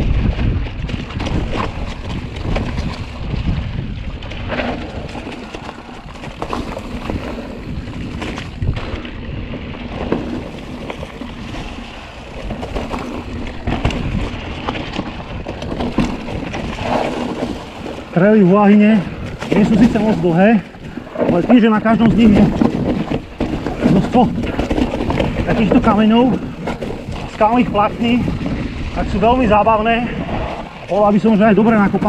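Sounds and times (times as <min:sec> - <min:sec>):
bike rattling: 0:00.0 - 0:32.0
wind rumble on microphone: 0:00.0 - 0:32.0
bike tyres on leaves and stones: 0:01.0 - 0:32.0.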